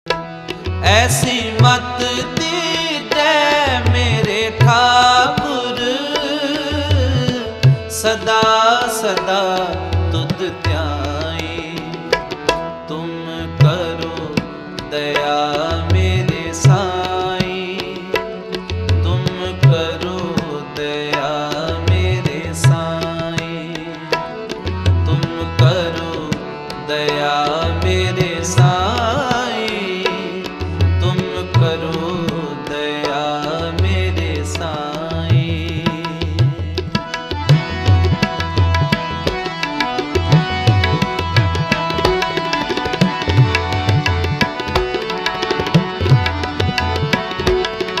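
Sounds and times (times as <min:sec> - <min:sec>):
person singing devotional song: 0:00.1 - 0:48.0
tabla drumming: 0:00.1 - 0:48.0.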